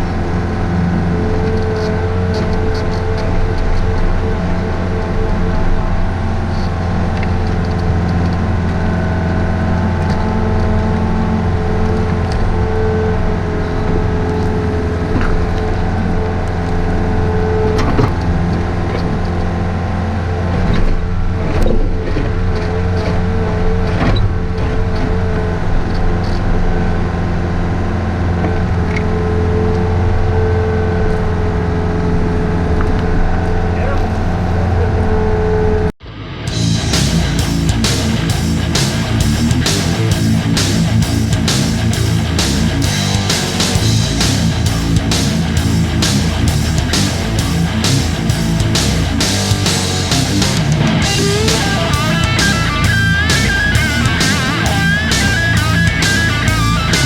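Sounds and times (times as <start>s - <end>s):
excavator diesel engine running: 0.0s - 57.0s
hydraulic whine: 0.0s - 57.0s.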